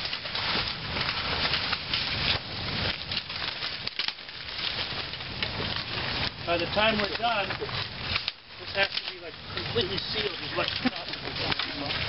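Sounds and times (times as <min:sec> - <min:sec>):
leaf litter and twigs rustling: 0:00.0 - 0:12.0.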